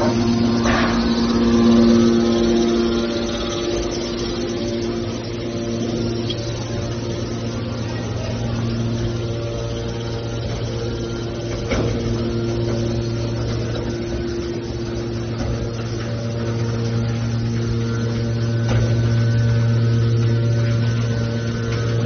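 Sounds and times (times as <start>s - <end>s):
hydraulic pump motor hum: 0.0s - 22.0s.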